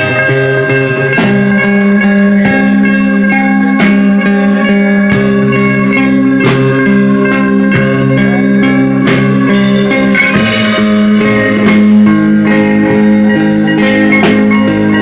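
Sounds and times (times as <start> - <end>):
electric guitar: 0.0 - 15.0
steady drum beat: 0.0 - 15.0.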